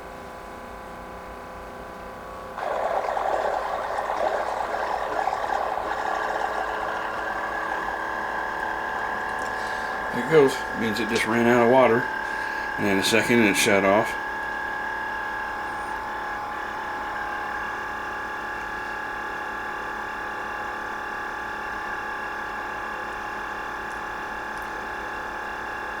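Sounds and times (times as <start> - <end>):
coffee maker pump whining drone: 2.6 - 26.0.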